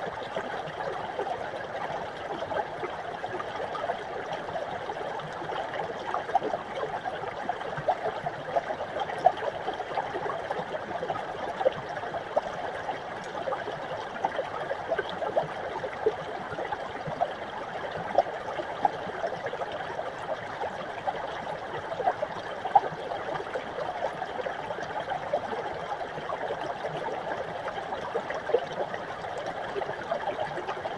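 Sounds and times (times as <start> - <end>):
brook gurgling over rocks: 0.0 - 30.9.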